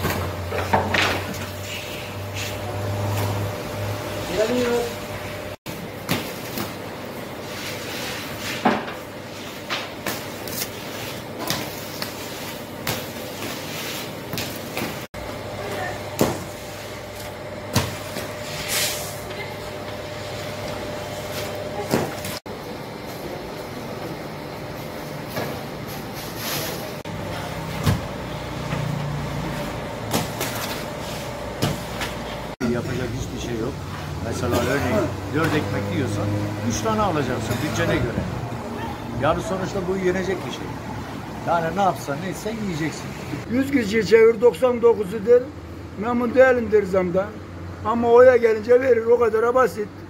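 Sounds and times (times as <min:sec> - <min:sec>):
low mechanical hum: 0:00.0 - 0:50.0
steady background noise: 0:00.0 - 0:50.0.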